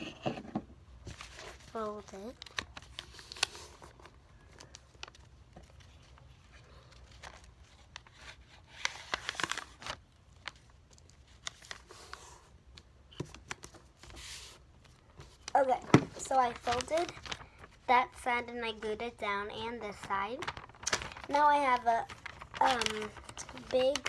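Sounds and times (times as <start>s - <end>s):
paper rustling and crinkling: 1.0s - 24.0s.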